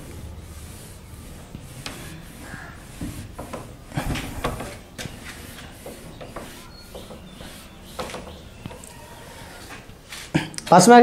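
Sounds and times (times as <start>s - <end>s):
eraser rubbing on whiteboard: 0.0s - 10.3s.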